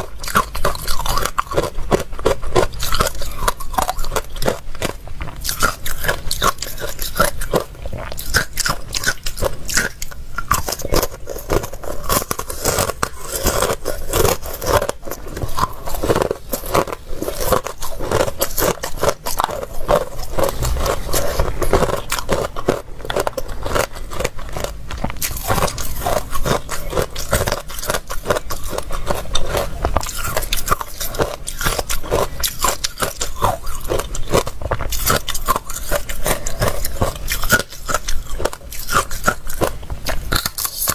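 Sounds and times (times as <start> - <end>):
person chewing crunchy ice: 0.0 - 40.9.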